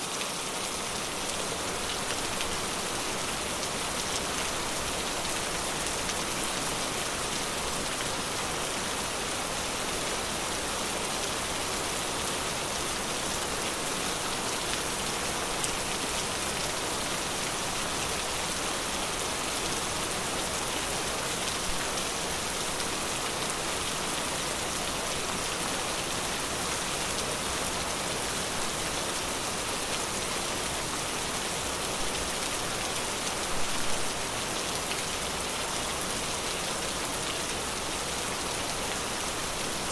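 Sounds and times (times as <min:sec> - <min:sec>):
rain pattering in forest: 0:00.0 - 0:39.9.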